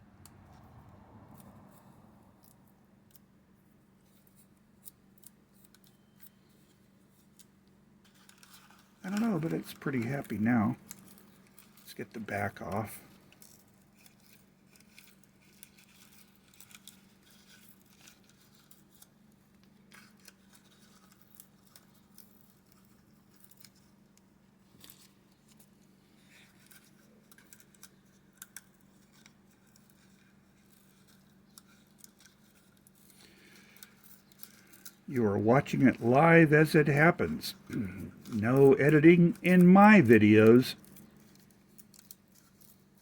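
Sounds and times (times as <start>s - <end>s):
hands rustling paper: 5.2s - 43.0s.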